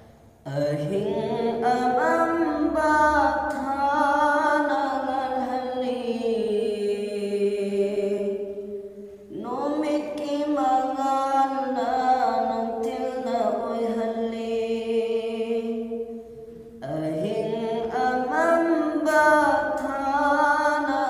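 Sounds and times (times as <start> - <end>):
man chanting unaccompanied: 0.5 - 8.7, 9.3 - 16.1, 16.8 - 21.0.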